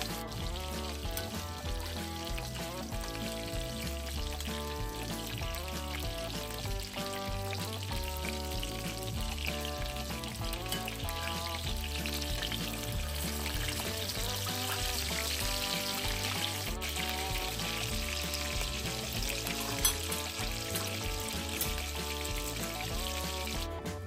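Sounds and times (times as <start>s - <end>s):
food sizzling in a frying pan: 0.0s - 23.9s
background music: 0.0s - 24.0s.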